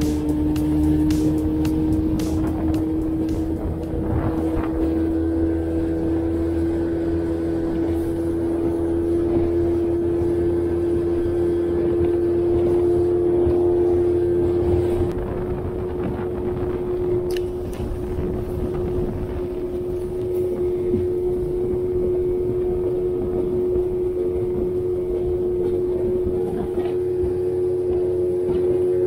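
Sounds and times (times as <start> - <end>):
low rumble: 0.0 - 29.0
motorboat engine running: 0.0 - 29.0.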